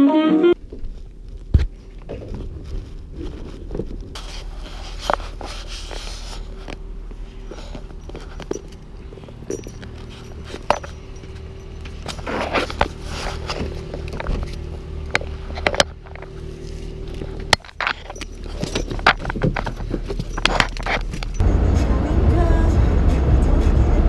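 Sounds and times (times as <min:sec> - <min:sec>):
footsteps: 0:00.6 - 0:21.4
steady low rumble: 0:00.6 - 0:24.0.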